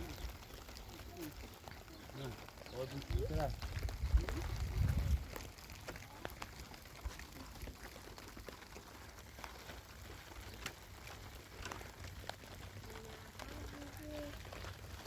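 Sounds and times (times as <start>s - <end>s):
raindrops ticking on a surface: 0.0s - 15.0s.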